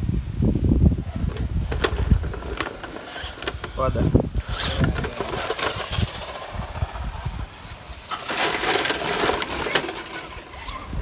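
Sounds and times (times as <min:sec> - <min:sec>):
gritty noise: 0:00.8 - 0:11.0
rc car clattering over ground: 0:01.0 - 0:11.0.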